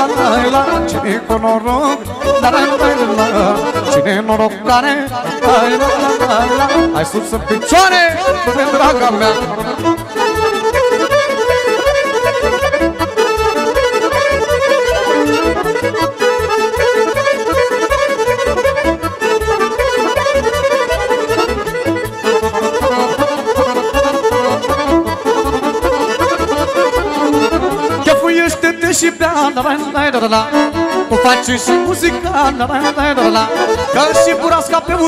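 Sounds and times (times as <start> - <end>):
accordion playing fast melody: 0.0 - 35.0
driving beat: 0.0 - 35.0
electronic keyboard accompaniment: 0.0 - 35.0.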